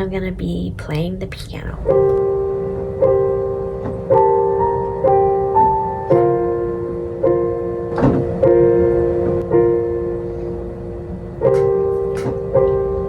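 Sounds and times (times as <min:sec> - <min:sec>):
slow piano chords and melody: 0:01.8 - 0:13.0.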